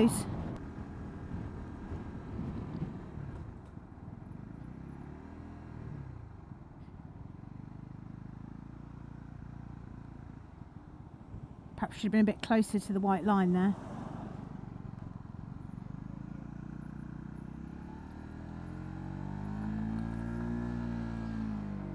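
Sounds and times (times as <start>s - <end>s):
motorcycle engine running: 0.0s - 12.4s, 14.4s - 21.9s
road and wind noise: 0.0s - 21.9s.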